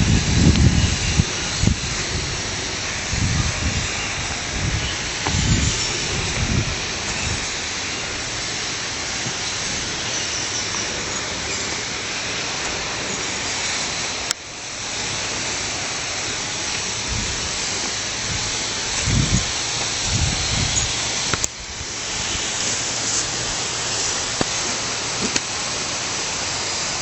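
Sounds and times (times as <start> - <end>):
stream water flowing over rocks: 0.0 - 27.0.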